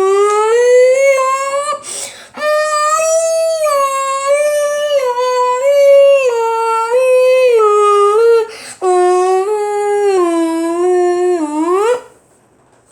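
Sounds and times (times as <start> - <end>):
dog howling: 0.0 - 1.8, 2.4 - 12.2.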